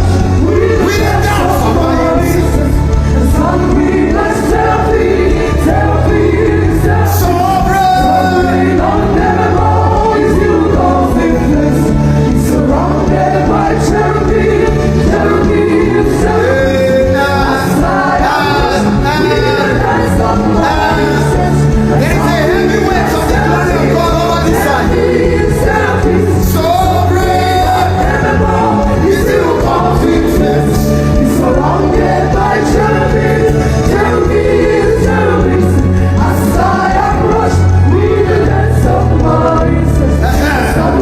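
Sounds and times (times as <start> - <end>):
group of voices singing: 0.0 - 41.0.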